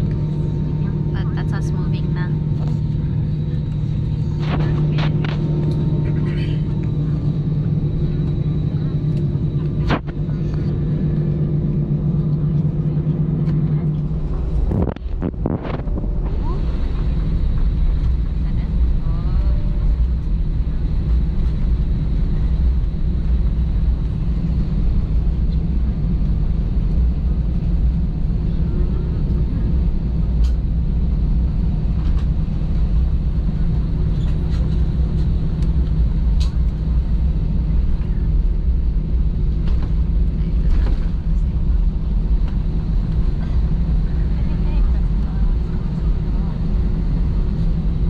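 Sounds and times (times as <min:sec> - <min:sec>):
airplane engine rumble from cabin: 0:00.0 - 0:48.0
constant hum: 0:00.0 - 0:48.0.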